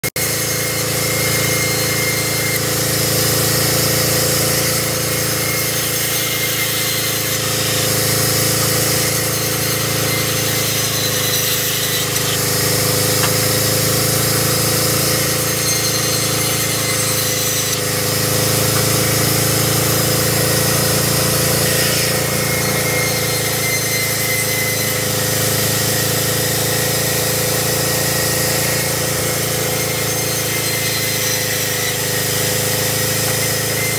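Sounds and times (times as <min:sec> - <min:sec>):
band saw ripping boards: 0:00.1 - 0:33.9.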